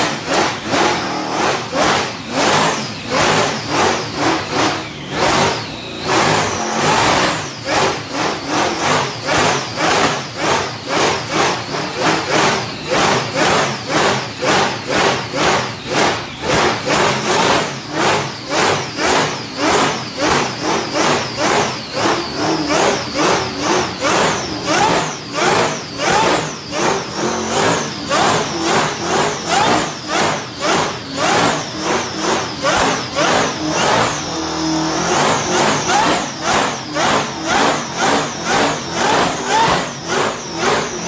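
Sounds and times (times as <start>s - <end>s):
engine revving in throttle blips: 0.0s - 41.0s
high blower whine: 0.0s - 41.0s.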